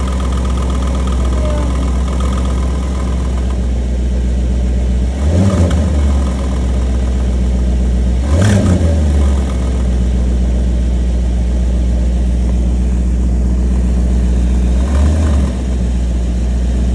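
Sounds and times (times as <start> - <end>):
car engine idling: 0.0 - 16.9
engine throttle blips: 0.0 - 16.9.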